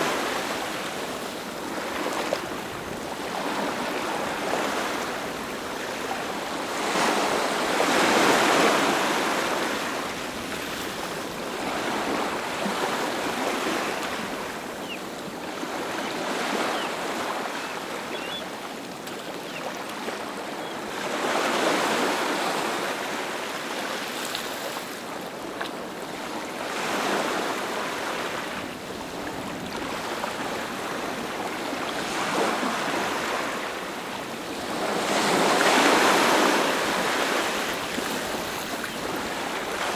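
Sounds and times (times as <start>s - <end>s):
ocean waves breaking: 0.0s - 20.4s, 26.1s - 39.9s.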